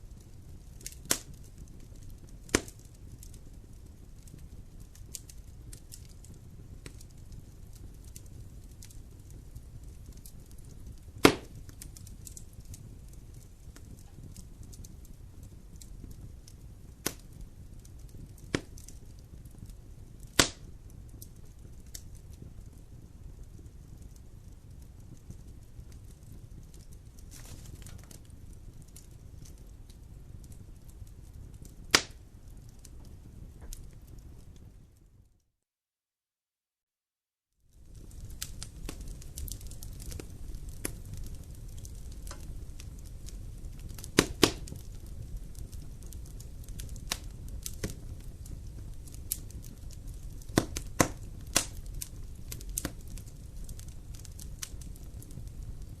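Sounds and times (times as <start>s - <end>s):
burning logs popping: 0.0s - 35.2s, 37.7s - 56.0s
fire rumbling and crackling: 0.0s - 35.4s, 37.6s - 56.0s.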